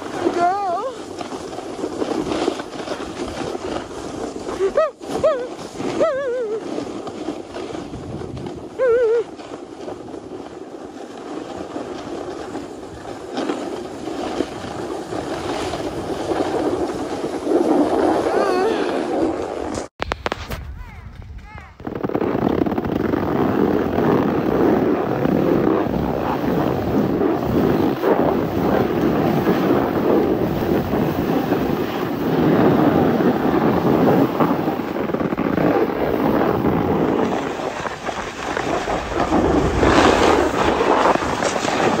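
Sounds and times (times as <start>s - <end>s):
snowboard scraping snow: 0.0s - 42.0s
wind on microphone: 0.0s - 42.0s.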